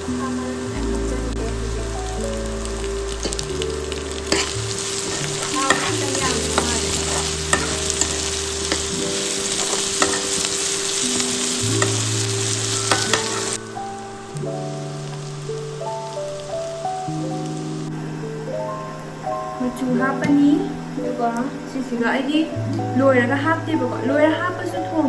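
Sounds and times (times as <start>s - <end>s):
food sizzling in hot oil: 0.0s - 25.0s
soft background music: 0.0s - 25.0s.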